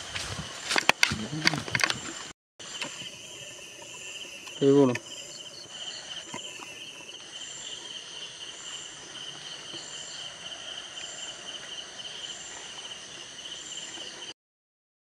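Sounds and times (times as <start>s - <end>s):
crickets trilling: 0.0s - 14.3s
high insect chirp: 0.0s - 14.3s.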